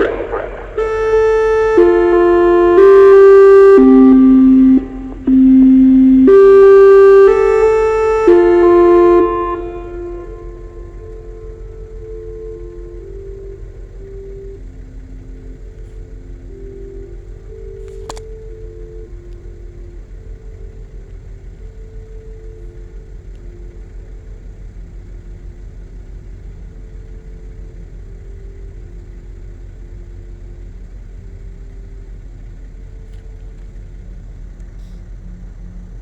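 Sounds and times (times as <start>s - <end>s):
faint steady tones: 0.0s - 36.0s
steady low rumble: 0.0s - 36.0s.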